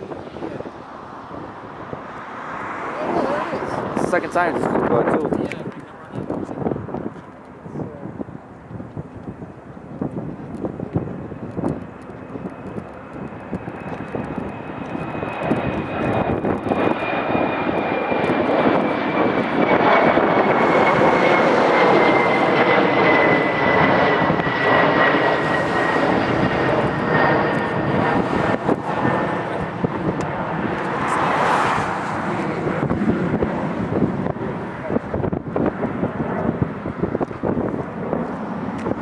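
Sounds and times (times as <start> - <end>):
airplane engines passing: 0.0 - 39.0.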